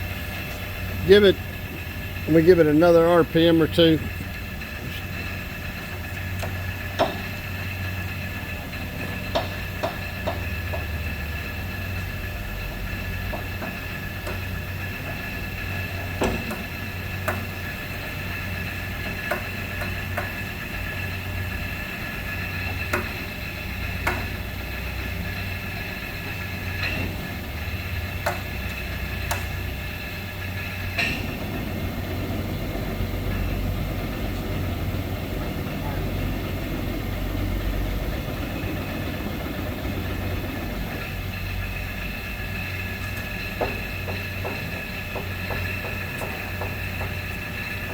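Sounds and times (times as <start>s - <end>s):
gear whine: 0.0s - 47.9s
lathe drive hum: 0.0s - 47.9s.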